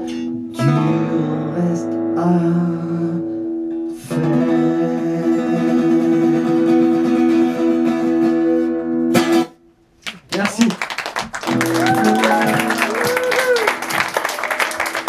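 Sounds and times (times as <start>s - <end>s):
guitar strumming chords: 0.0s - 9.6s, 11.5s - 15.0s.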